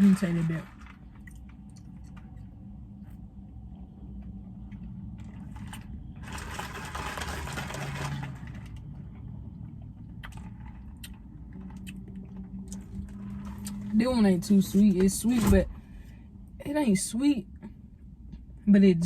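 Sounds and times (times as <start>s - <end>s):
car idling: 0.0s - 16.6s.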